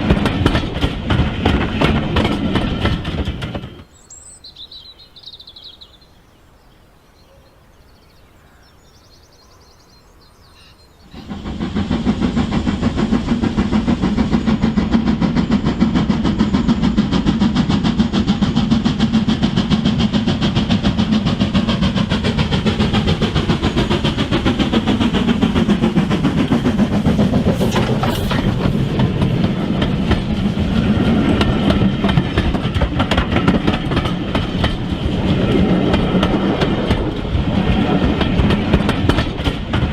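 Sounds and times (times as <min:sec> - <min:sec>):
wheels clattering over track: 0:00.0 - 0:03.9, 0:11.1 - 0:39.9.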